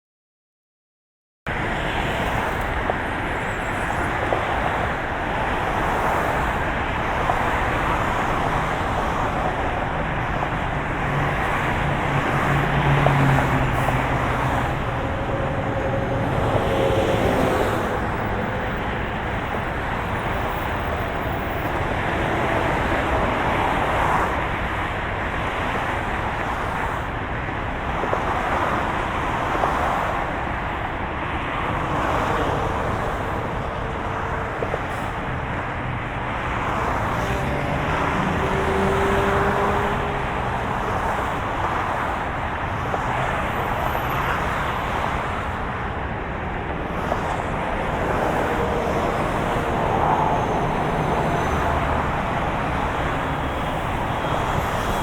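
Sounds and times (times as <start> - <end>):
car road and engine noise: 1.5 - 55.0.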